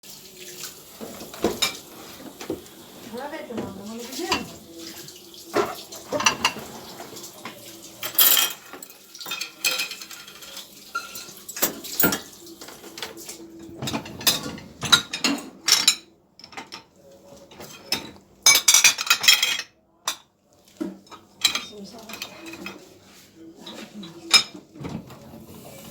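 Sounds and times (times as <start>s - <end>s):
dishes and cutlery clinking: 0.5s - 25.9s.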